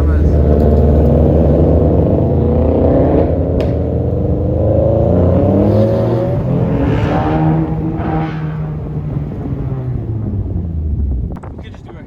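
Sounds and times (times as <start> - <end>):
car engine accelerating: 0.0 - 11.4.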